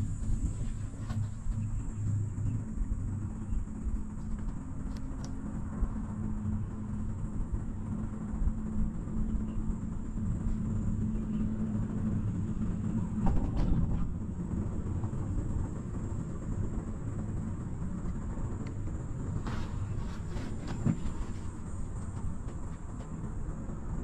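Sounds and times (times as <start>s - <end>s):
cable car rumble and hum: 0.0s - 24.0s.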